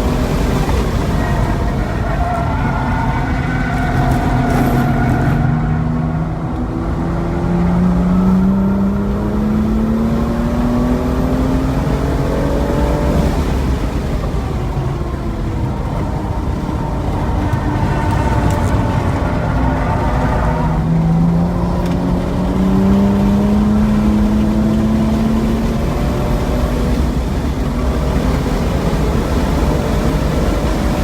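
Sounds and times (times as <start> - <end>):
car engine revving: 0.0 - 31.0
tyre and wind noise: 0.0 - 31.0.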